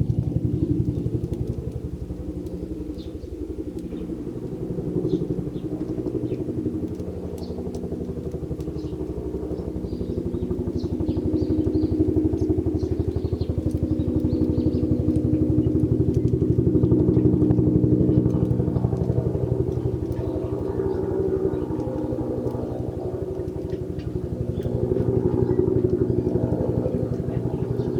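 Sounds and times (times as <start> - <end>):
engine pulsing drone: 0.0 - 27.9.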